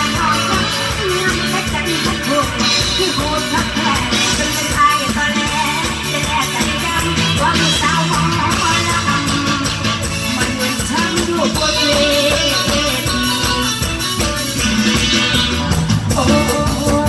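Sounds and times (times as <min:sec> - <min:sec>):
person singing: 0:00.0 - 0:14.0, 0:15.9 - 0:17.0
live band dance music: 0:00.0 - 0:17.0.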